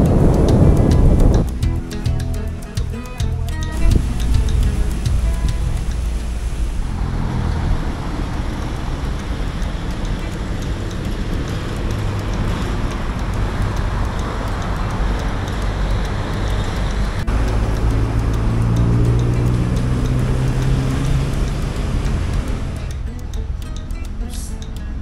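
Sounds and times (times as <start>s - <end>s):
city road traffic: 0.0s - 25.0s
deep steady hum: 0.0s - 25.0s.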